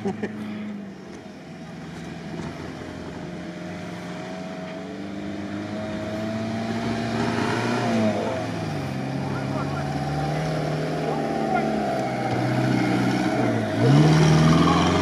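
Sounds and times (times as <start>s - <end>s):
engine pulling through sand: 0.0s - 15.0s.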